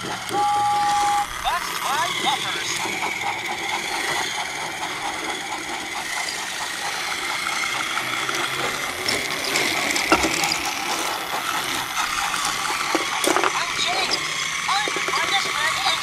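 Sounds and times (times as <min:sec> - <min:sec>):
toy engine motor whirring: 0:00.0 - 0:16.0.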